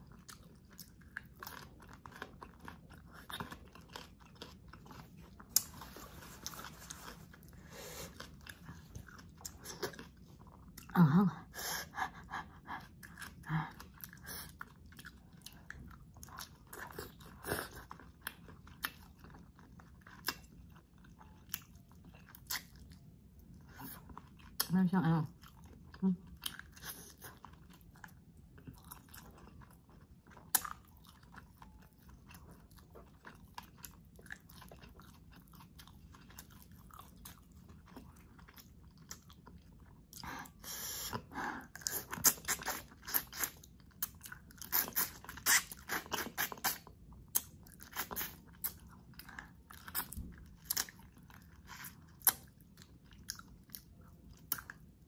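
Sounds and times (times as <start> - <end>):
chewing and biting: 0.0 - 11.0, 12.0 - 55.0.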